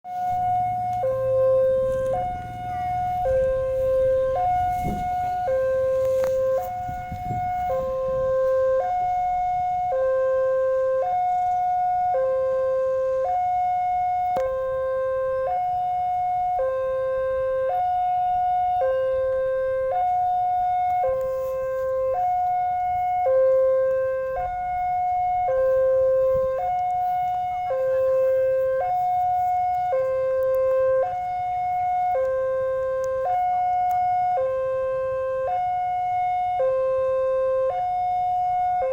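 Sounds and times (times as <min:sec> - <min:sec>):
two-tone crossing alarm: 0:00.0 - 0:38.9.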